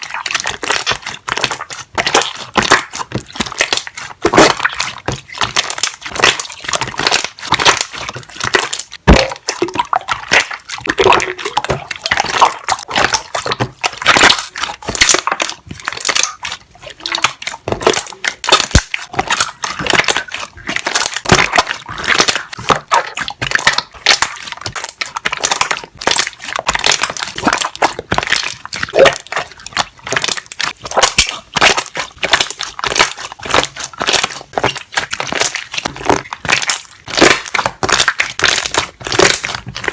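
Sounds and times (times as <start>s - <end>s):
slime squeezed with bubbles popping: 0.0s - 39.9s.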